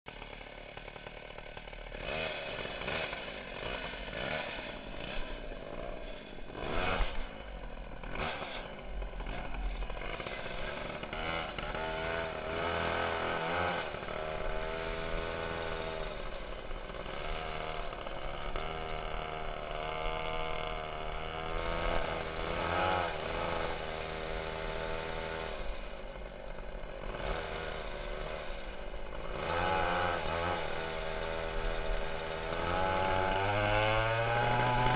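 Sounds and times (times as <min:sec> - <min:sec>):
two-stroke go-kart engines revving: 0:00.1 - 0:34.9.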